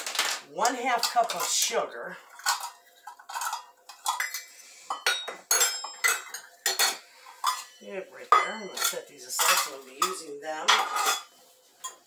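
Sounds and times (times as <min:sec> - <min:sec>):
utensils clinking on glass bowl: 0:00.1 - 0:12.0.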